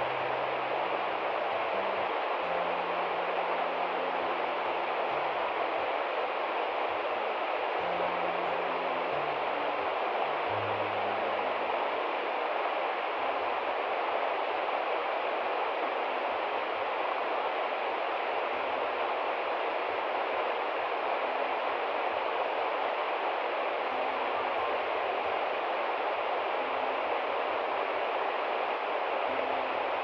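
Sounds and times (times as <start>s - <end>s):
river water rushing over rocks: 0.0s - 30.0s.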